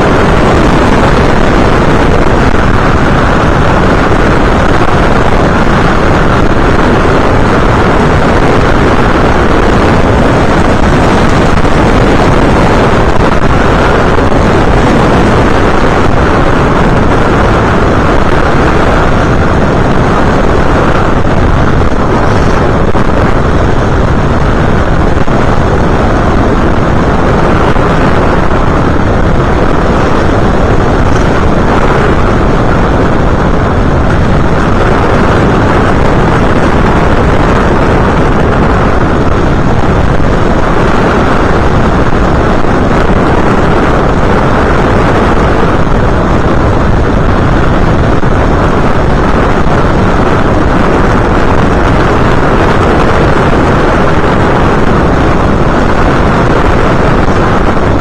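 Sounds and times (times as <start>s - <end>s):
rushing airflow and motor: 0.0s - 58.0s.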